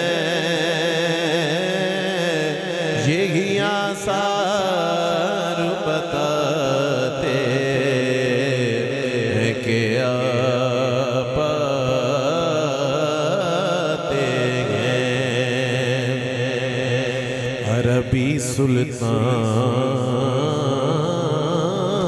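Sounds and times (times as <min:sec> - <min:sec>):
man singing amplified: 0:00.0 - 0:22.0.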